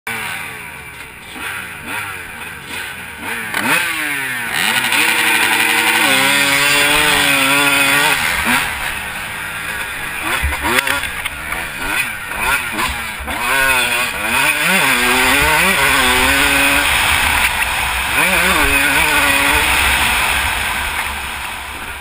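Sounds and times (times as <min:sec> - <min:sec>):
motocross engines revving: 0:00.1 - 0:22.0
motorbike at full throttle: 0:00.1 - 0:22.0.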